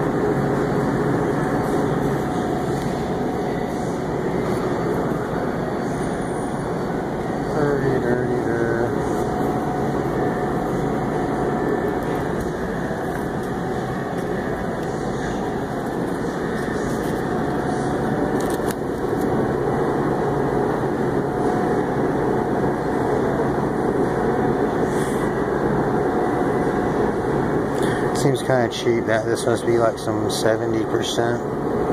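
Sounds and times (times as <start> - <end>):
refrigerator fans humming: 0.0 - 31.9.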